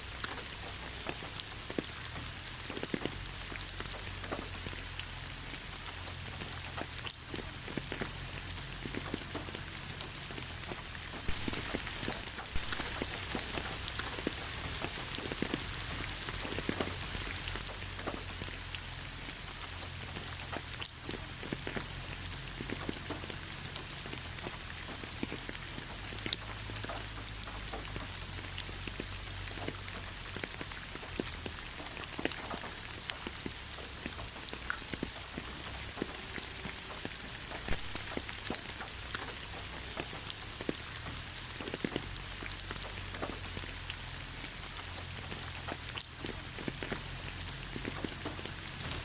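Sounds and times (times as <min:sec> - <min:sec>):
raindrops pattering on a surface: 0:00.0 - 0:49.0.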